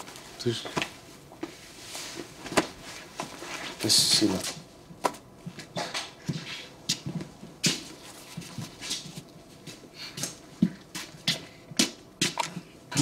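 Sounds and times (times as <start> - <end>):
rustling and handling noises: 0.0 - 11.4.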